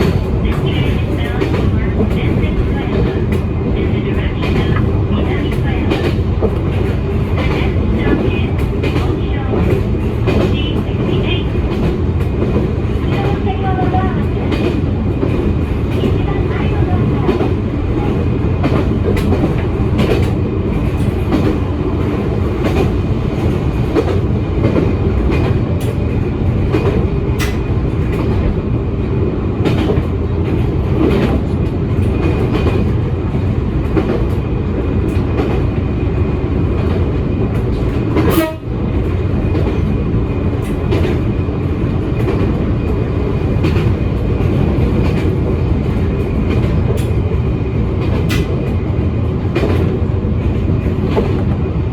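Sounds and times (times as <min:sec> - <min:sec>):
electric train rumbling: 0:00.0 - 0:51.9.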